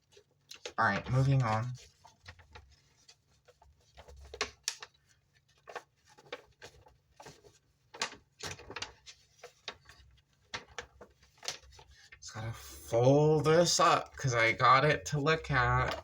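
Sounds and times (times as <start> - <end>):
cardboard and paper rustling: 0.0 - 16.0.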